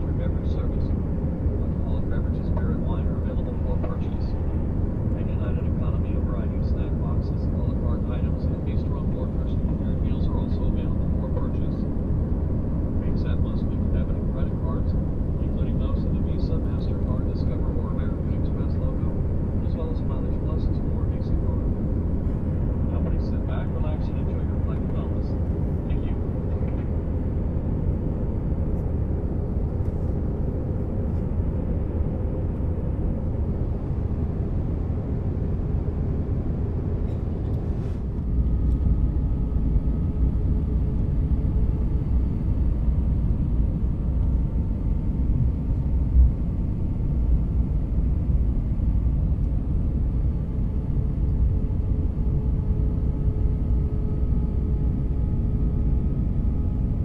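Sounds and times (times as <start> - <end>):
engine and airflow rumble: 0.0 - 57.0
faint whine tones: 0.0 - 57.0.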